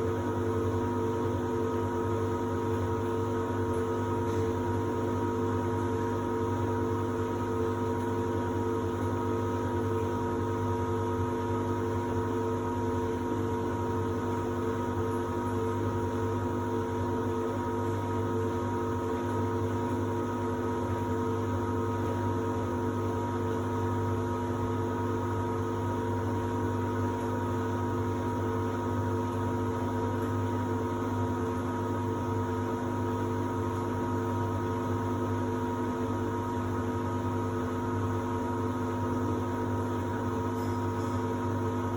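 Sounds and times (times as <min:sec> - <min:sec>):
washer-dryer humming: 0:00.0 - 0:41.9.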